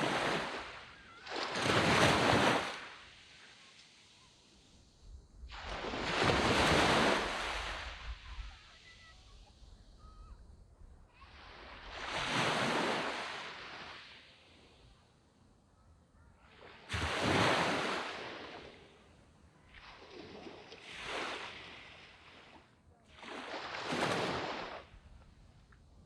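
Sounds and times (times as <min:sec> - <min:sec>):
waves breaking on sandy beach: 0:00.0 - 0:10.3, 0:11.1 - 0:15.2, 0:16.4 - 0:25.3.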